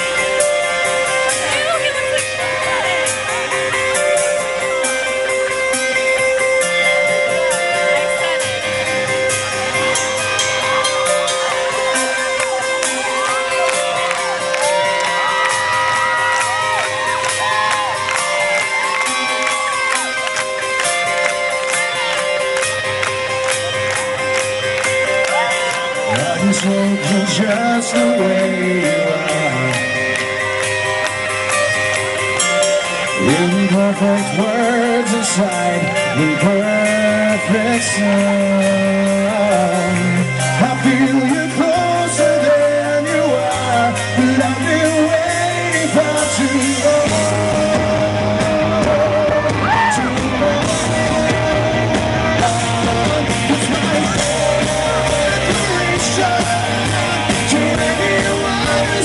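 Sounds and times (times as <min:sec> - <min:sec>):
bass guitar: 0:00.0 - 0:59.0
drums: 0:00.0 - 0:59.0
electric guitar: 0:00.0 - 0:59.0
male lead singer: 0:00.0 - 0:59.0.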